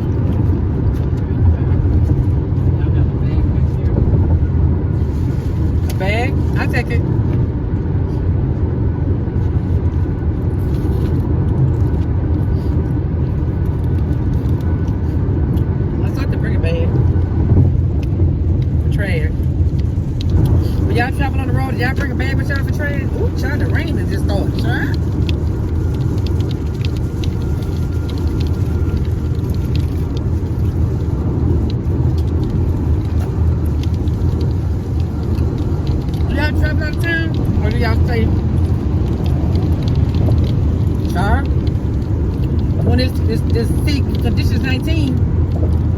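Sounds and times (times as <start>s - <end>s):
car road rumble from inside: 0.0s - 45.9s.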